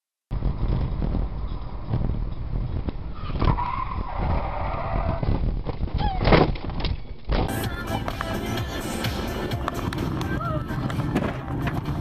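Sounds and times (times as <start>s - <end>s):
car road and wind noise: 0.3s - 12.0s.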